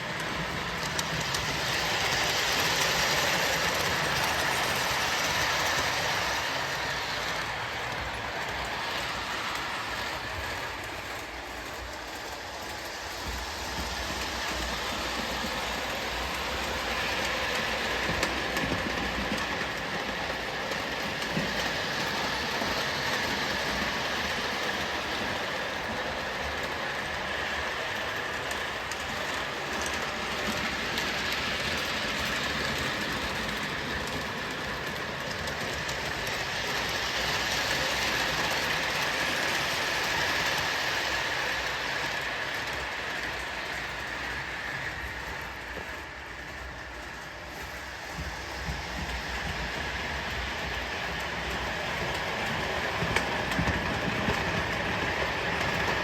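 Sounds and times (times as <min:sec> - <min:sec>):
model locomotive whine: 0:00.0 - 0:56.0
model train wheels rumbling on rail: 0:00.0 - 0:56.0.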